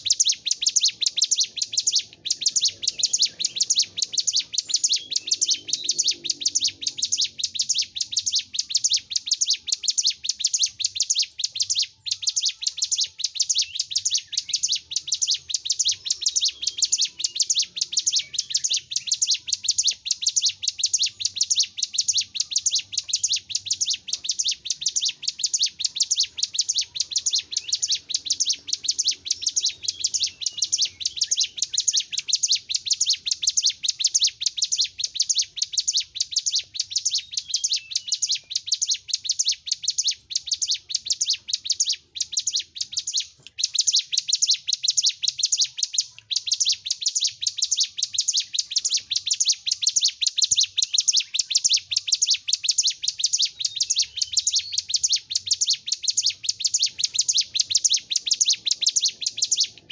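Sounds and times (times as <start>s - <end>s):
bird chirping rapidly: 0.0s - 59.9s.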